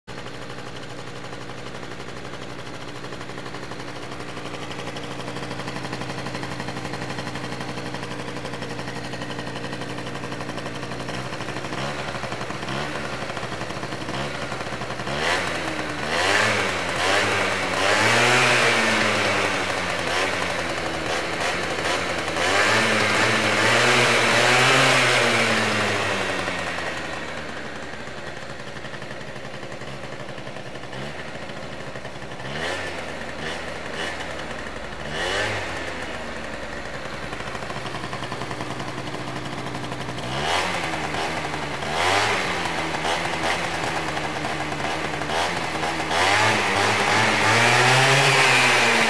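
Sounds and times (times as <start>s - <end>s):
scooter engine revving: 0.1s - 49.0s.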